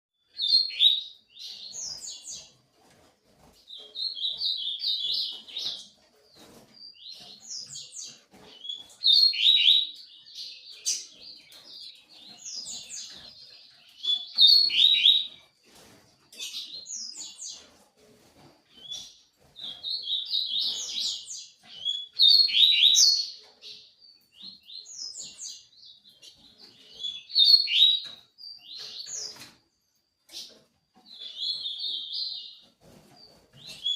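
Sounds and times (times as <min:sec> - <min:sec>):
songbird chirping: 0:00.2 - 0:02.7, 0:03.4 - 0:17.8, 0:18.7 - 0:33.9.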